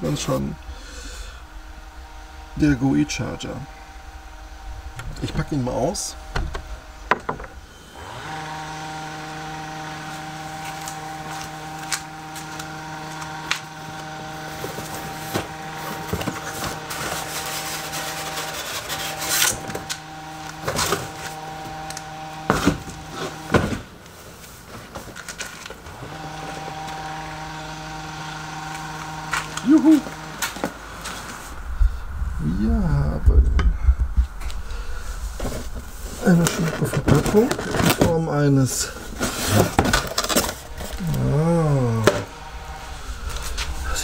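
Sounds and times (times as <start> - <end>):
machinery humming: 0.0 - 44.0.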